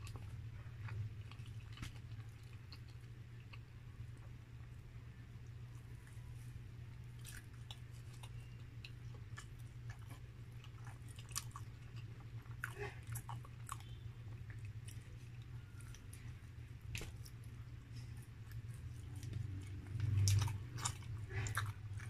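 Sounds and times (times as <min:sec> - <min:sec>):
person chewing food: 0:00.0 - 0:22.0
steady low hum: 0:00.0 - 0:22.0.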